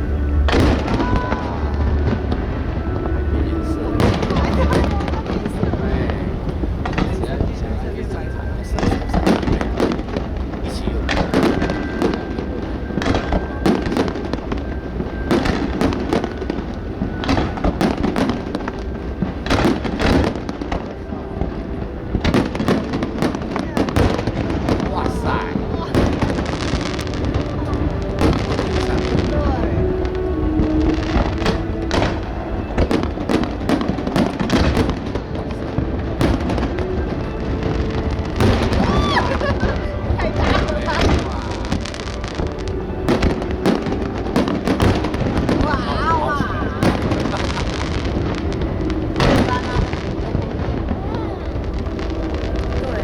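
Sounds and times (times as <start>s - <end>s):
fireworks bangs: 0.0s - 53.0s
fireworks crackling: 0.0s - 53.0s
music playing: 0.0s - 53.0s.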